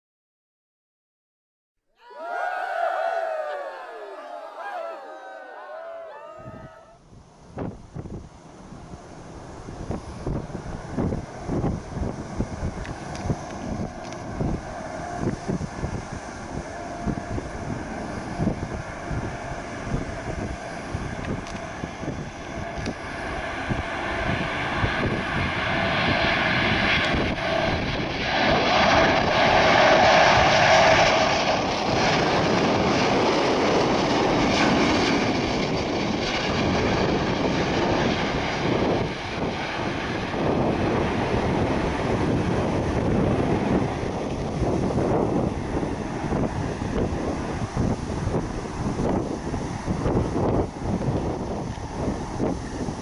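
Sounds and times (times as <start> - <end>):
jet airliner approaching: 2.2 - 53.0.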